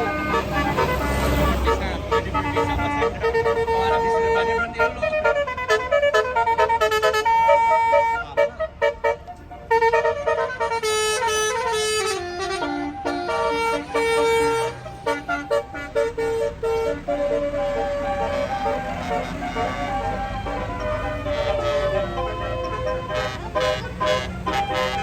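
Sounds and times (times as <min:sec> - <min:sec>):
multi-tone bus horn melody: 0:00.0 - 0:25.0.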